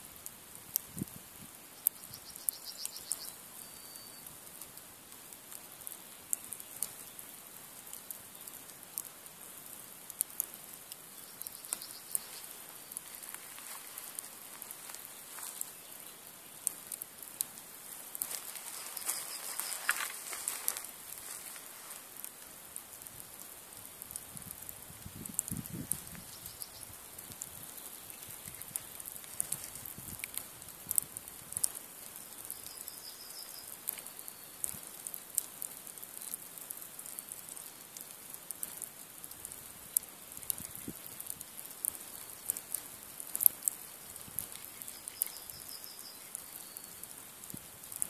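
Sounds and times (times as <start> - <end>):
log fire crackling and popping: 0.0 - 48.0
soft fire hiss: 0.0 - 48.0.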